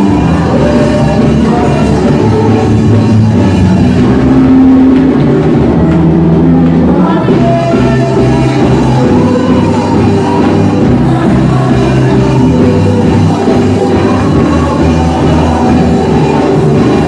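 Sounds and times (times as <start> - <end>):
band playing worship music: 0.0 - 17.0
voices singing: 0.0 - 17.0.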